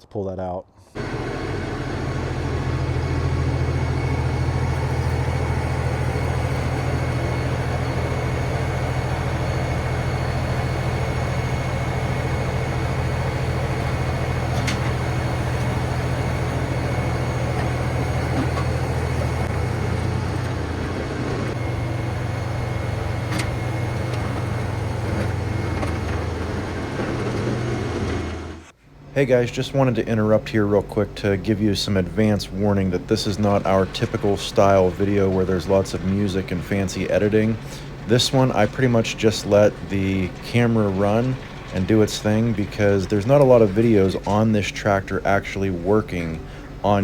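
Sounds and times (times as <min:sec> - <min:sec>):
tractor diesel engine droning: 0:01.0 - 0:47.0.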